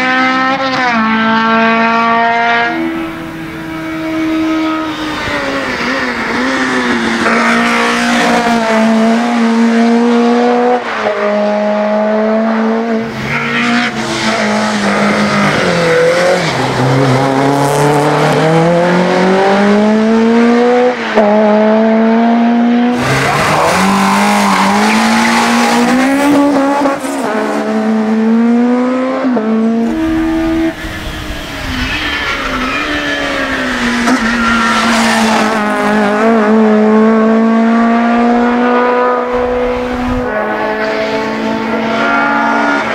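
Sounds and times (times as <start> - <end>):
racing car engines accelerating: 0.0 - 42.9.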